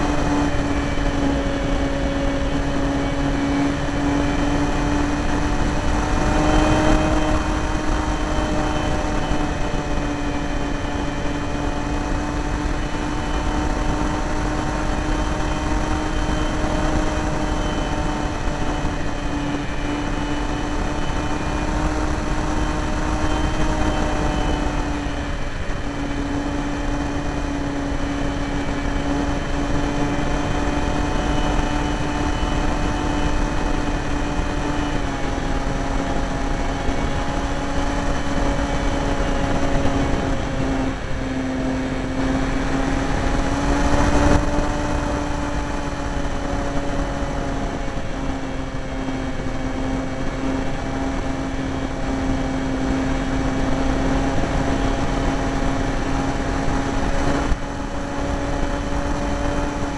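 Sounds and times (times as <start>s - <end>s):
model plane motor droning: 0.0s - 59.9s.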